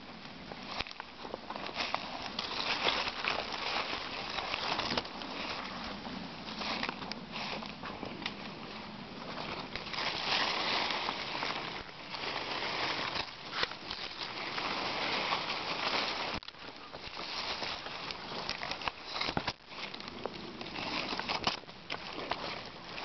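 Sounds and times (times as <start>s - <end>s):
footsteps in undergrowth: 0.0s - 23.0s
grass and leaves rustling: 0.0s - 23.0s
handling noise: 0.0s - 23.0s.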